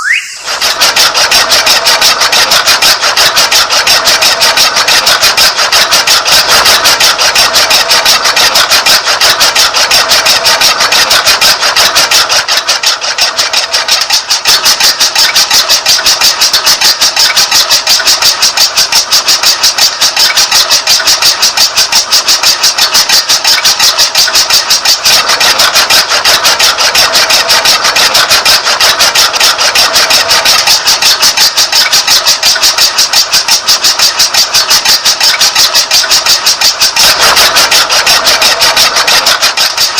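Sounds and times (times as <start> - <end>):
small electric motor pulsing: 0.0 - 39.9.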